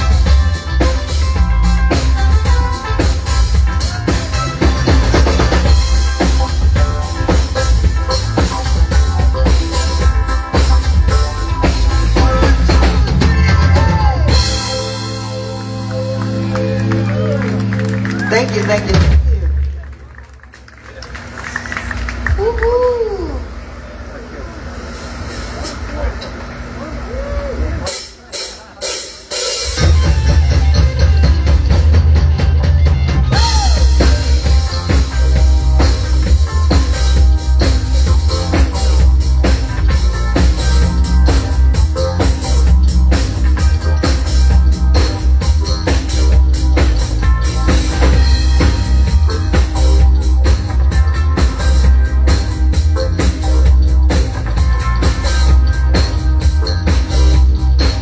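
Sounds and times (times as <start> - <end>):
drum kit beat: 0.0 - 20.8, 27.9 - 58.0
band playing a song: 0.0 - 22.8, 24.3 - 58.0
heavy bass: 0.0 - 27.9, 29.7 - 58.0.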